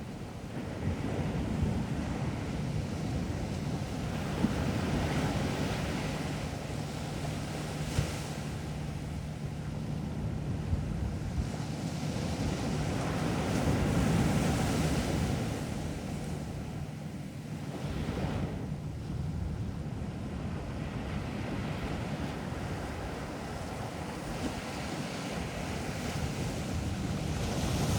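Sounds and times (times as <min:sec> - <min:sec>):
sea waves breaking: 0:00.0 - 0:19.2, 0:20.7 - 0:27.9
wind rumbling on microphone: 0:00.0 - 0:27.9.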